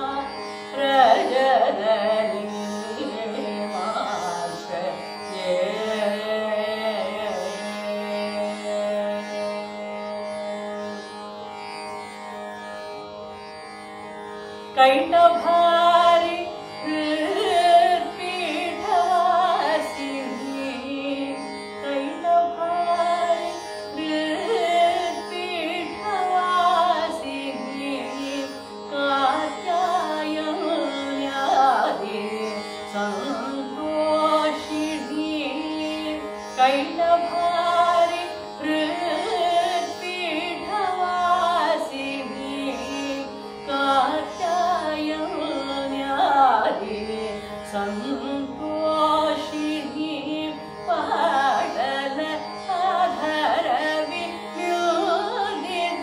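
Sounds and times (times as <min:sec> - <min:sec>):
woman singing: 0:00.0 - 0:09.6, 0:14.8 - 0:56.0
plucked veena notes: 0:00.0 - 0:56.0.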